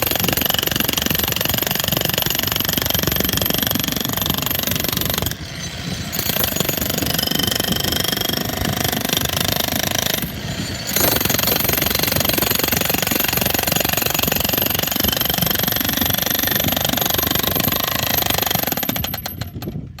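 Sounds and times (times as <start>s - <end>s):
demolition hammer breaking concrete: 0.0s - 19.9s.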